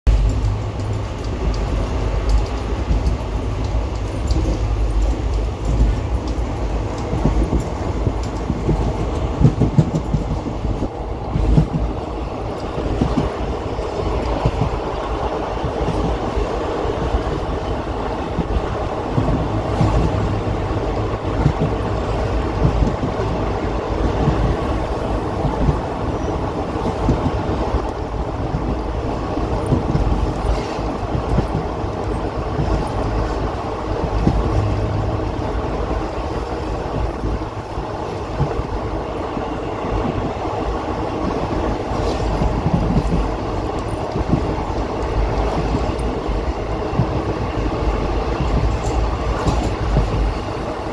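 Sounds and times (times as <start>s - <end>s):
train wheels rumbling: 0.1s - 50.9s.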